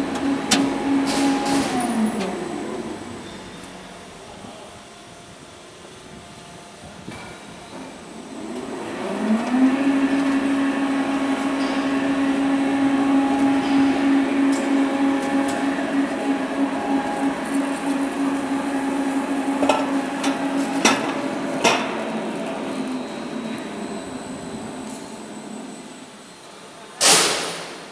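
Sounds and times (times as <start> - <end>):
roll forming machine motor humming: 0.0 - 4.6, 7.6 - 26.8.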